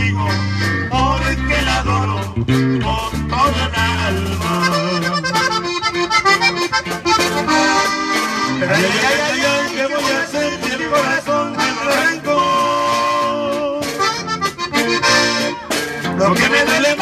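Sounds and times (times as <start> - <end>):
accordion melody: 0.0 - 17.0
bass line: 0.0 - 17.0
strummed guitar: 0.0 - 17.0.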